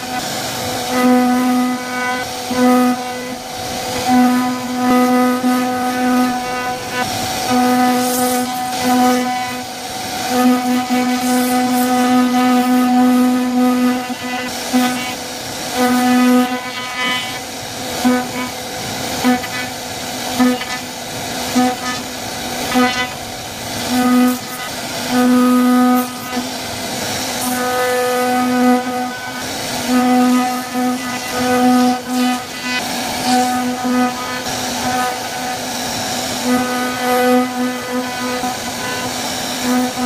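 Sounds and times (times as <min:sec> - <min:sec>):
cnc router spindle whine: 0:00.0 - 0:40.0
hiss of wood cutting: 0:00.0 - 0:40.0.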